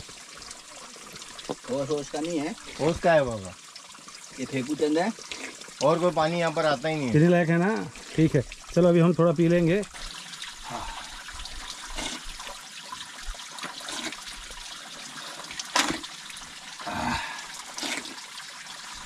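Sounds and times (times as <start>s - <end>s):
spring water trickling and splashing: 0.0s - 19.0s
water splashes: 0.0s - 19.0s.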